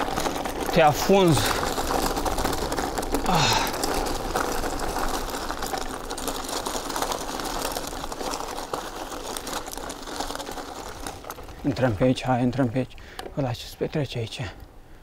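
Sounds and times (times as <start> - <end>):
bicycle rattling: 0.0 - 15.0
bicycle tyres crunching on gravel: 0.0 - 15.0.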